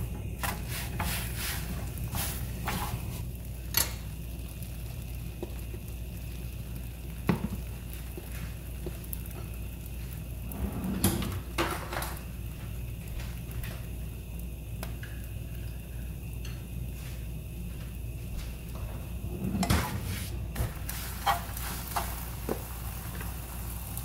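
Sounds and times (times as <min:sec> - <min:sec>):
flatbread sizzling on a griddle: 0:00.0 - 0:24.0.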